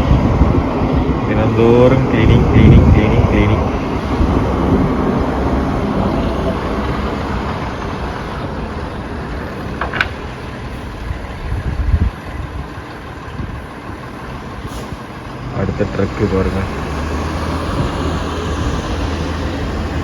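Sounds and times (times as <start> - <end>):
truck engine rumble: 0.0 - 20.0.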